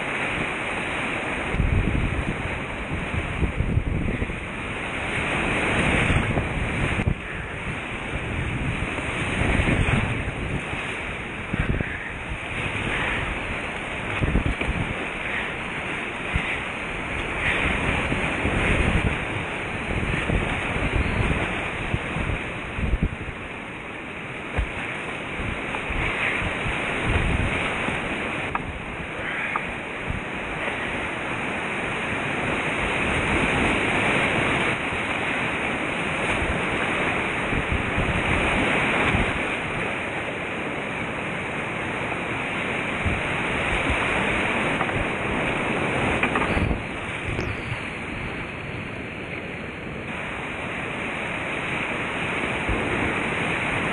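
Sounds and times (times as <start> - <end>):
whitewater rapids rushing: 0.0 - 53.9
wind buffeting microphone: 0.0 - 53.9.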